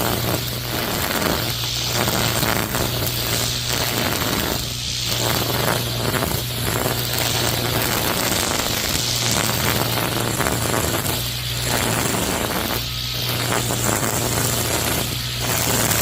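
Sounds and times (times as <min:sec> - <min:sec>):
blade whirring through grass: 0:00.0 - 0:16.0
electric motor hum: 0:00.0 - 0:16.0.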